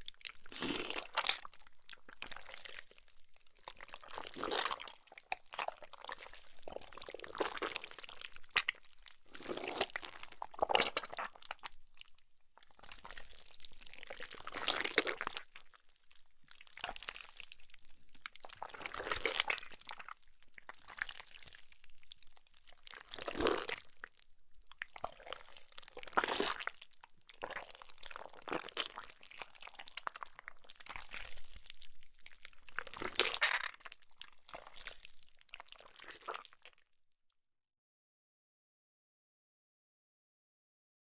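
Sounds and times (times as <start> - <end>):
wet squishes and crunches: 0.0 - 15.8, 16.5 - 36.9.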